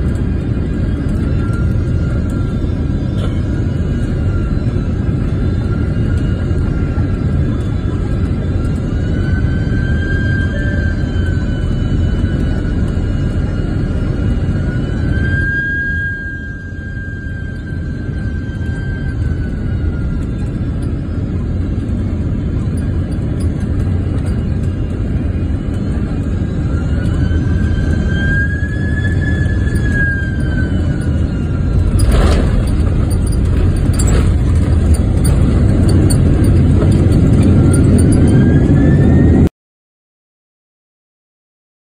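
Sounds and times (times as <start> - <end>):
jet cabin rumble: 0.0 - 39.5
jet engines whining: 0.0 - 39.5.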